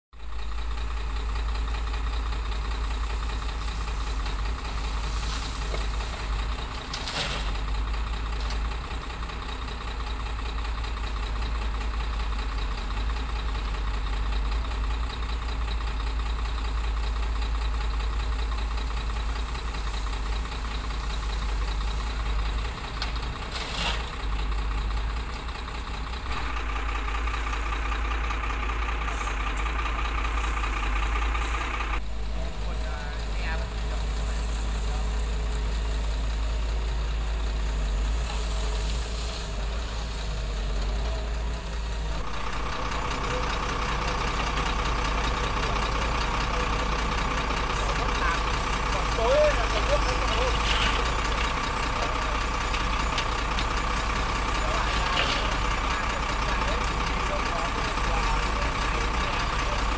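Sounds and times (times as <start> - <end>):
dump truck engine running: 0.1 - 59.9
excavator diesel engine running: 0.1 - 59.9.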